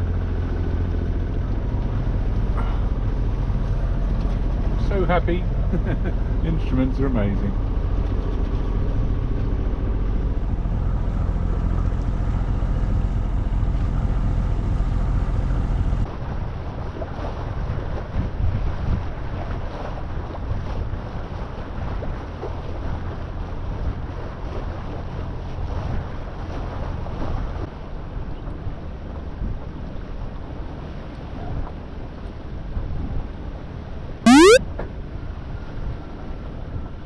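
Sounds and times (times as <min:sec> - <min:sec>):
water: 0:00.0 - 0:32.9.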